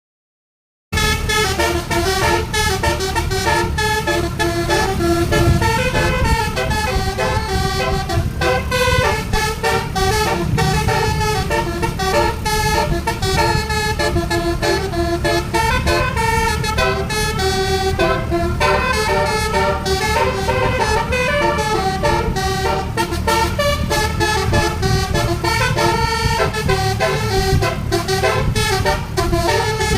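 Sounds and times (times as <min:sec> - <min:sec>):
bus engine rumble: 0:01.0 - 0:29.9
musical air horn tune: 0:01.0 - 0:29.9.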